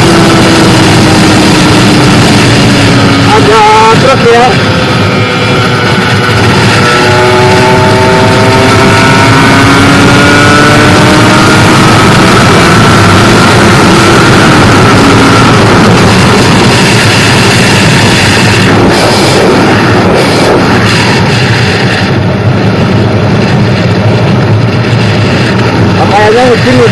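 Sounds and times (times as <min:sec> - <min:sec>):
motorcycle engine at high speed: 0:00.0 - 0:26.9
wind rush on microphone: 0:00.0 - 0:26.9.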